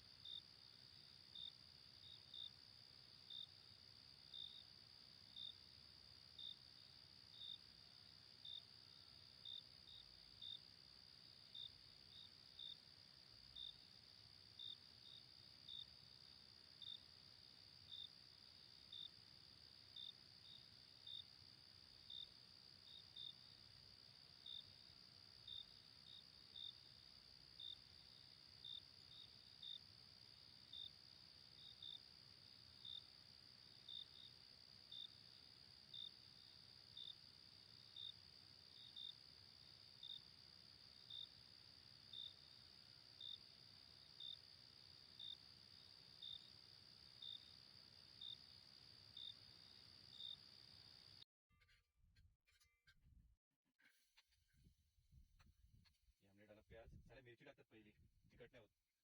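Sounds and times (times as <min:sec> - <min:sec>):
insect chirp: 0:00.0 - 0:51.2
insects droning: 0:00.0 - 0:51.2.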